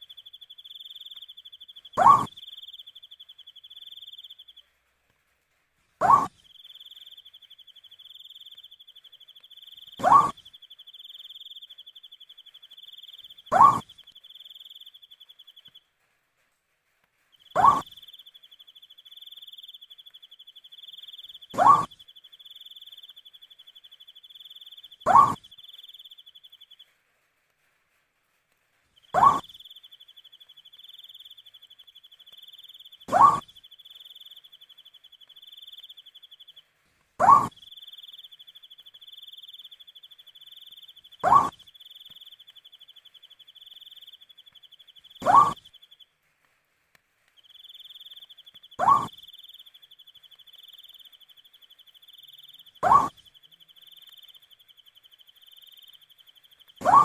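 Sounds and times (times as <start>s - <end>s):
cricket trilling: 0.0s - 4.6s, 6.0s - 15.2s, 17.5s - 26.6s, 29.1s - 36.6s, 37.2s - 45.8s, 47.4s - 57.0s
owl hooting: 0.0s - 4.6s, 6.0s - 15.7s, 17.5s - 26.8s, 29.0s - 36.6s, 37.2s - 46.0s, 47.4s - 57.0s.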